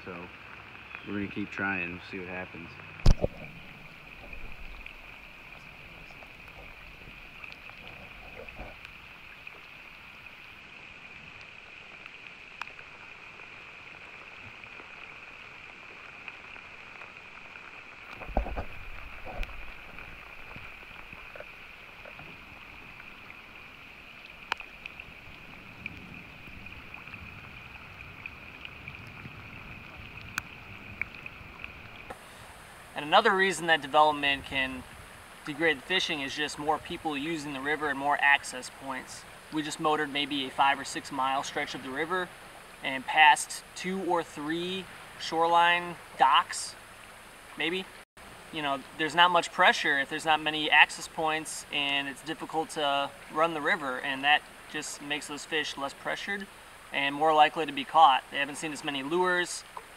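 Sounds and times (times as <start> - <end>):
raindrops ticking: 0.0 - 48.0.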